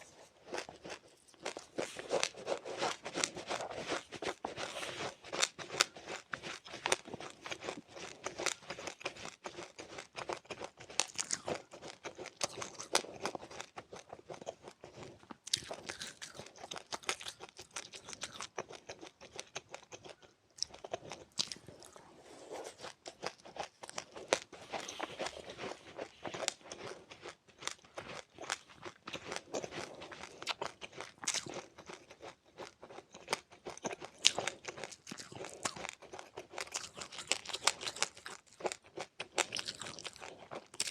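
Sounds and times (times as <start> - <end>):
person chewing crunchy seeds: 0.0 - 40.9.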